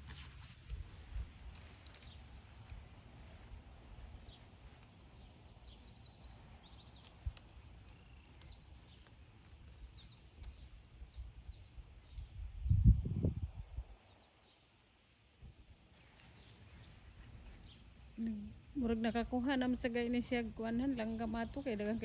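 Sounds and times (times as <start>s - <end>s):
small birds chirping: 0.0s - 14.9s, 15.6s - 18.7s, 20.8s - 22.0s.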